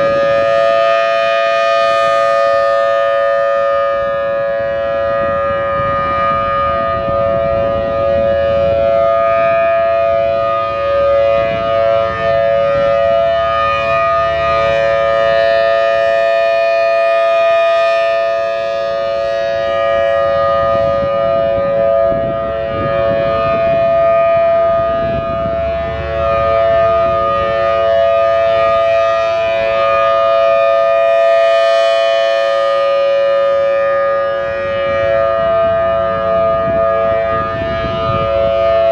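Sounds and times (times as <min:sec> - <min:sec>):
rotating civil defense siren: 0:00.0 - 0:38.9.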